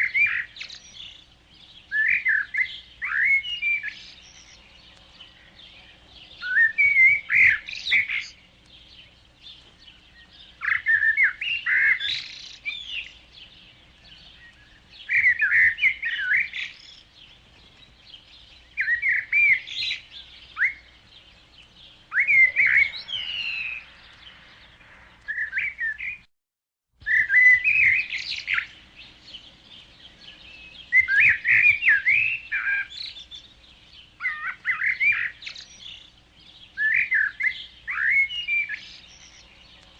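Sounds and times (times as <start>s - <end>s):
songbird singing: 0.0s - 26.3s, 27.0s - 39.9s.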